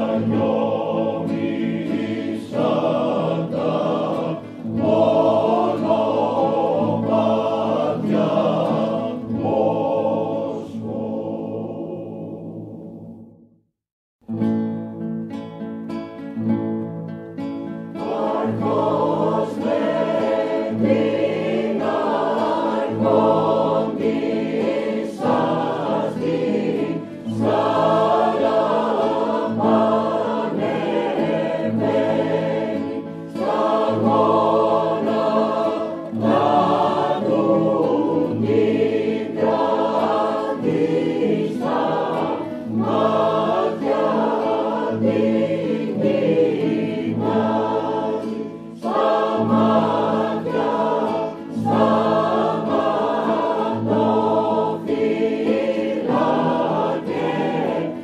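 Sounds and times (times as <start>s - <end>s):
choir singing a carol: 0.0s - 13.4s, 17.9s - 58.0s.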